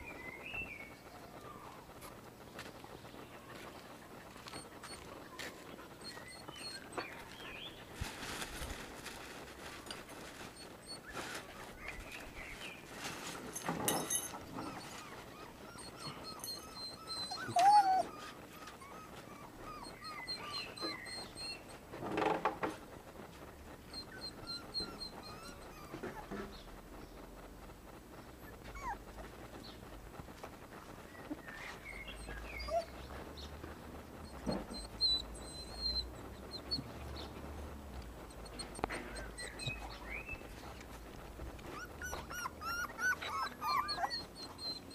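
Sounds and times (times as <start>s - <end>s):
puppies whimpering and yelping: 0.0s - 2.4s, 3.3s - 13.4s, 14.0s - 22.0s, 23.2s - 26.9s, 28.3s - 44.9s.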